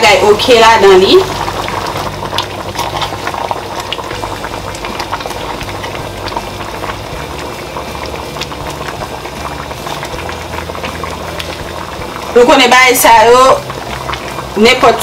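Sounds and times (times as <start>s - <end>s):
sauce bubbling in a pot: 0.0s - 15.0s.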